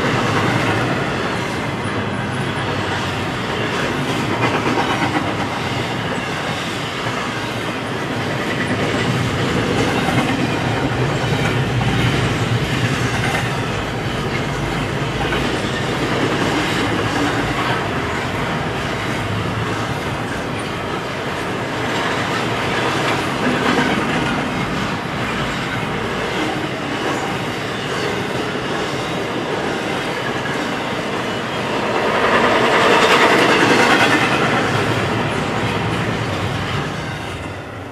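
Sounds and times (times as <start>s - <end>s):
freight train wheels rumbling on rails: 0.0s - 37.9s.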